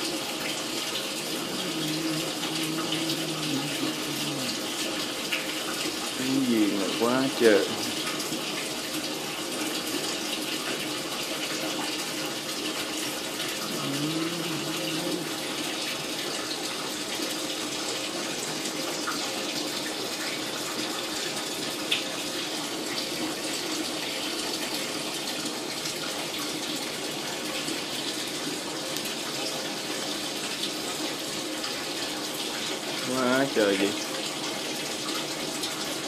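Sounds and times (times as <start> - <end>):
running water rushing: 0.0 - 36.0.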